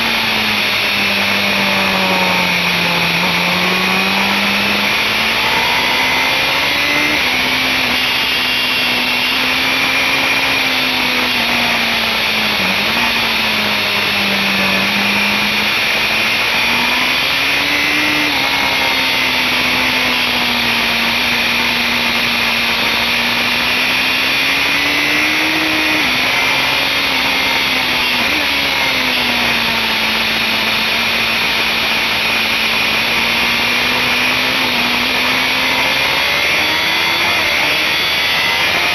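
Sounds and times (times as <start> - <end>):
motorcycle engine at speed: 0.0 - 38.9.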